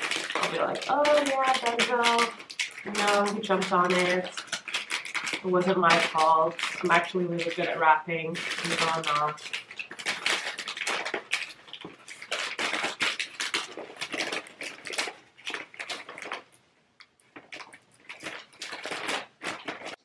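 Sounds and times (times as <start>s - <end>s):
wrapping paper crinkling: 0.0s - 20.0s.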